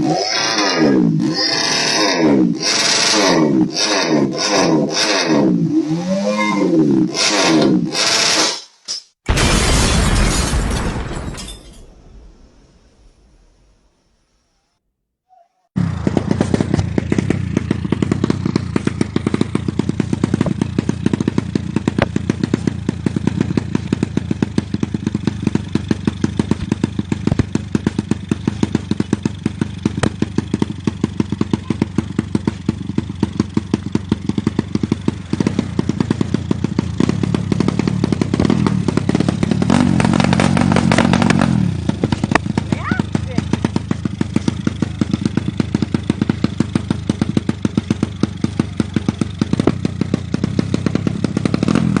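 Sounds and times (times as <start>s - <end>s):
motorcycle engine running loudly: 0.0s - 8.6s, 15.8s - 52.0s.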